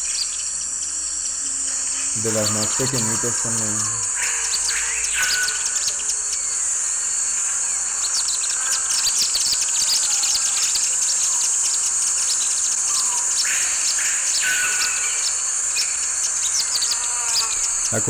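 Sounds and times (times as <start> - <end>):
high-pitched insect drone: 0.0 - 18.0
swifts twittering: 0.0 - 18.0.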